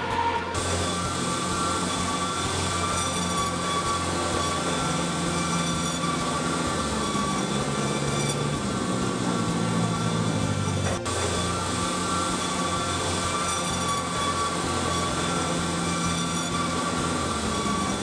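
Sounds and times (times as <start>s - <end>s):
band saw cutting steel: 0.0s - 18.0s.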